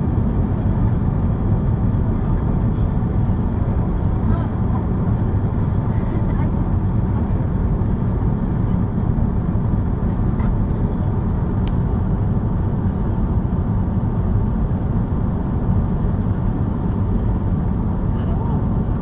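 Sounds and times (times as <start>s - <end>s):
airplane cabin engine roar: 0.0s - 19.0s.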